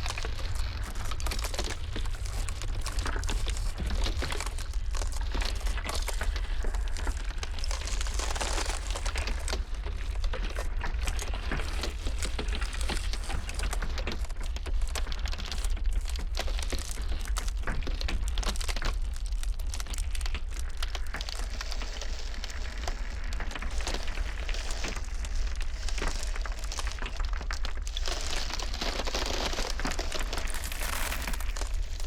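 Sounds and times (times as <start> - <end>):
ice crackling and cracking: 0.0 - 32.0.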